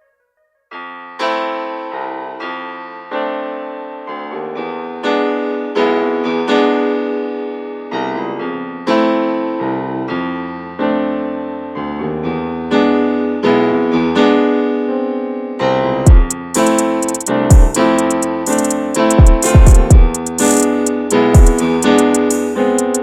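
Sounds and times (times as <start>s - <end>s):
piano music: 0.7s - 23.0s.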